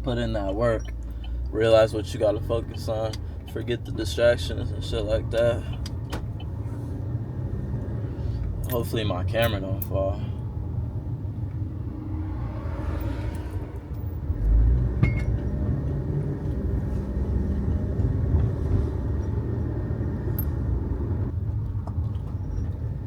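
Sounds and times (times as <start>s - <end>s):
road and engine rumble in car cabin: 0.0s - 23.0s.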